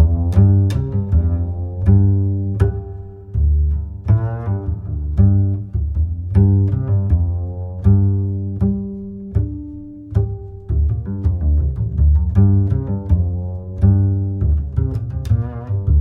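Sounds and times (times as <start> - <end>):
low plucked string notes: 0.0 - 16.0.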